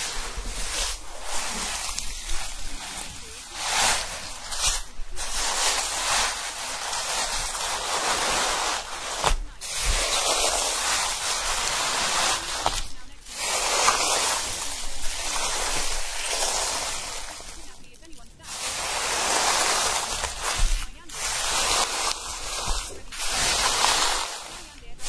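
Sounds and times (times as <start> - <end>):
ocean surf washing: 0.0 - 25.0.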